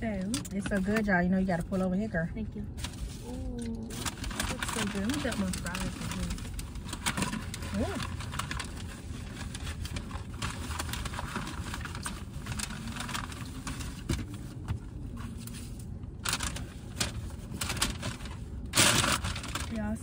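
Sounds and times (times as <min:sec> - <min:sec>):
low car cabin hum: 0:00.0 - 0:20.0
paper bags rustling and crinkling: 0:02.8 - 0:19.9.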